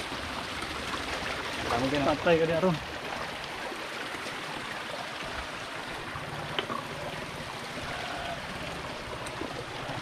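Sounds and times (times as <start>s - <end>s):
mountain stream running: 0.0s - 10.0s.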